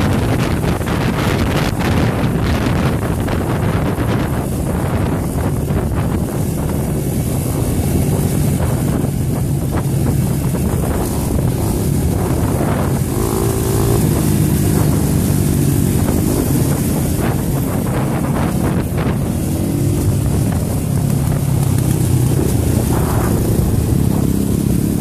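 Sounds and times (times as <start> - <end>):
dirt bike engine running: 0.0 - 25.0
wind on microphone: 0.0 - 25.0.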